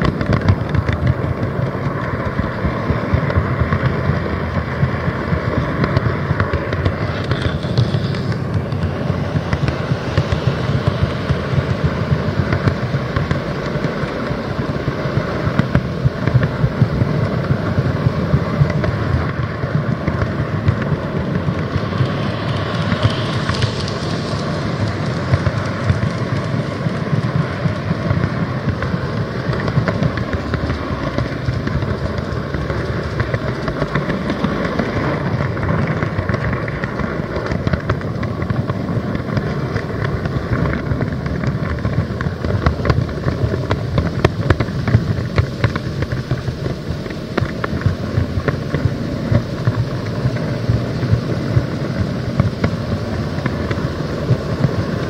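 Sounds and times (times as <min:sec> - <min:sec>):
model train rolling and motor: 0:00.0 - 0:55.0
wheels clicking over rail joints: 0:00.0 - 0:55.0.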